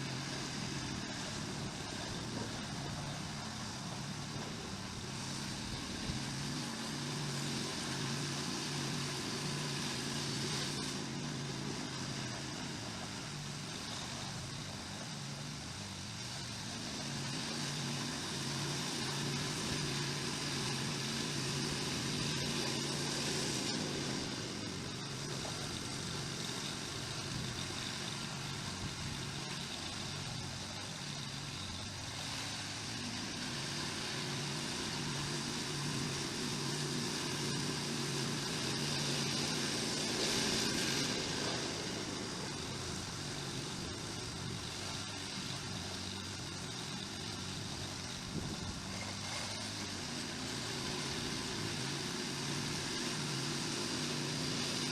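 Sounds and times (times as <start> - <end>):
snowblower engine running: 0.0 - 54.9.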